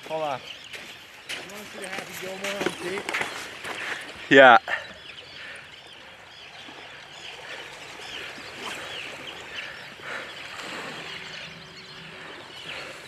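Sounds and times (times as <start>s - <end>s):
seabirds calling: 0.0s - 13.0s
wind and surf hiss: 0.0s - 13.0s.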